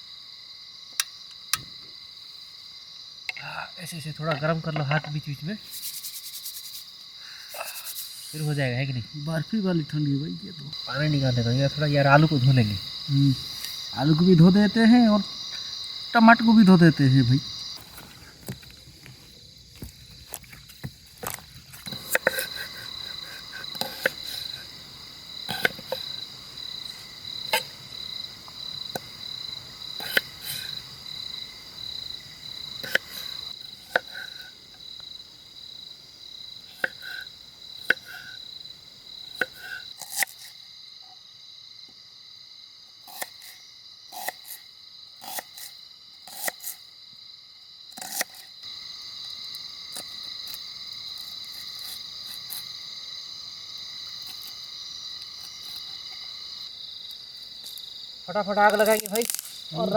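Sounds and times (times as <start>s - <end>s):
insects chirping in pulsing trill: 0.0s - 59.9s.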